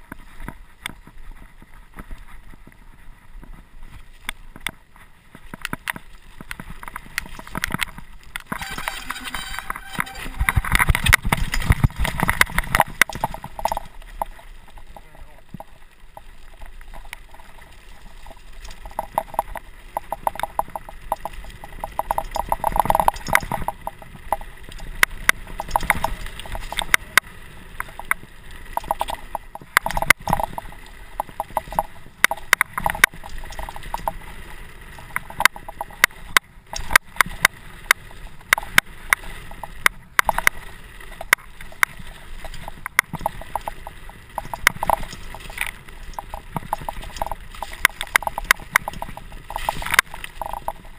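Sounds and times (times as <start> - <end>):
bike knocking and rattling: 0.0 - 50.9
tyres crunching over loose stones: 0.0 - 50.9.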